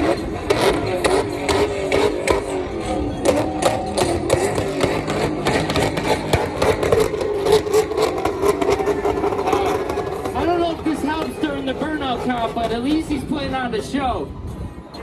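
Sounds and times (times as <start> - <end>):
car engine at high revs: 0.0 - 14.9.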